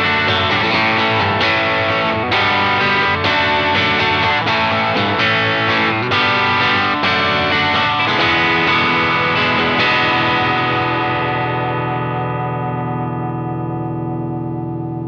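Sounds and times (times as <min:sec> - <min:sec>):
overdriven electric guitar chords: 0:00.0 - 0:15.0.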